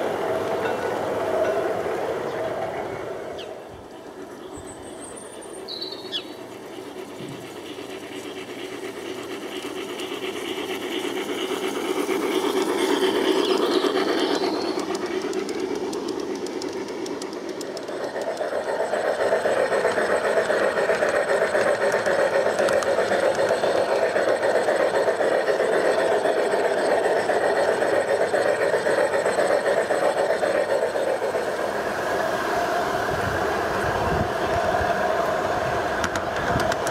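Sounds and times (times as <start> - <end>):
model train wheels rolling: 0.0 - 36.9.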